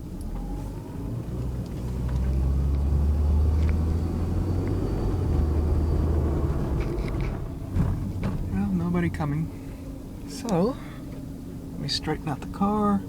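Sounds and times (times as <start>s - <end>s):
car engine running low drone: 0.0s - 13.0s.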